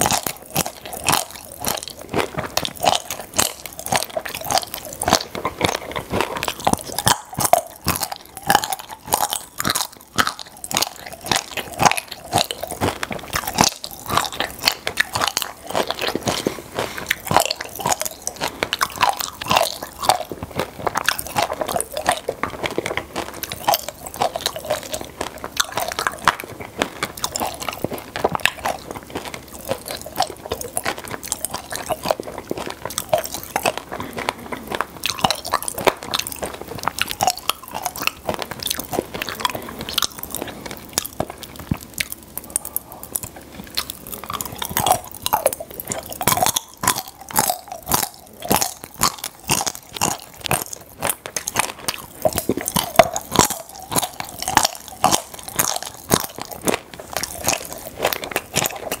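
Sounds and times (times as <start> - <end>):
chewing and crunching chocolate: 0.0 - 59.0
popping candy crackles: 0.0 - 59.0.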